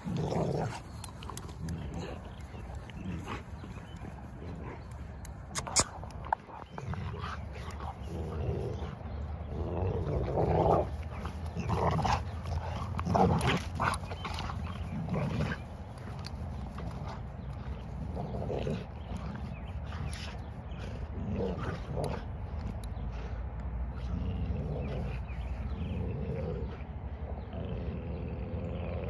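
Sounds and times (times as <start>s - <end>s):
dogs growling while playing: 0.0s - 29.0s.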